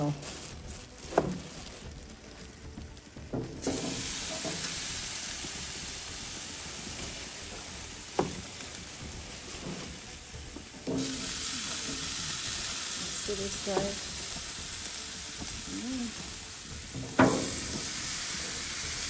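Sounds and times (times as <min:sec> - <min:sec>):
chicken sizzling on a grill: 0:00.0 - 0:19.0.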